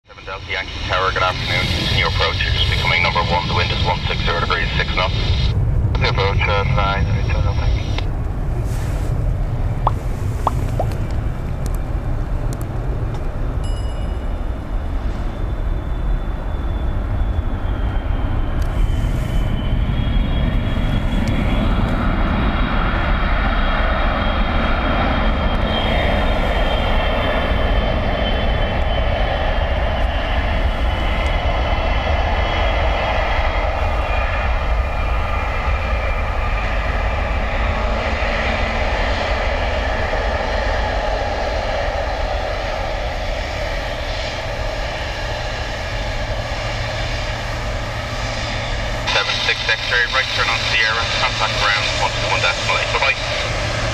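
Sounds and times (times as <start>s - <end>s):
jet engines rumbling: 0.1s - 13.6s, 14.3s - 53.9s
high jet whine: 0.1s - 53.9s.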